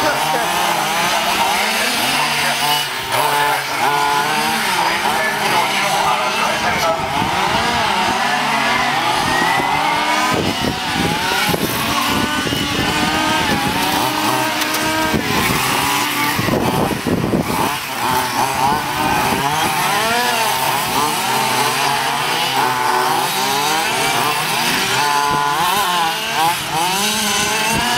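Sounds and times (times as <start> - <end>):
model car engines whining: 0.0 - 27.9.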